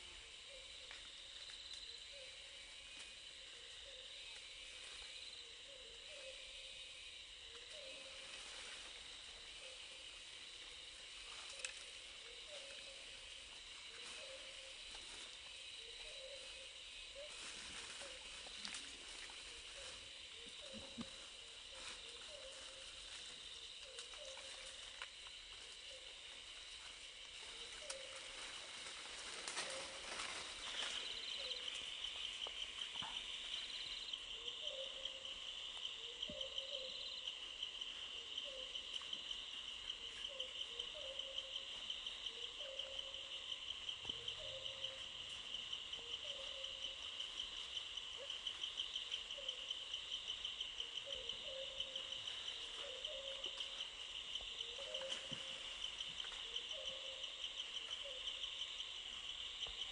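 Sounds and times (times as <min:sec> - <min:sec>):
insects pulsing high drone: 0:00.0 - 0:59.9.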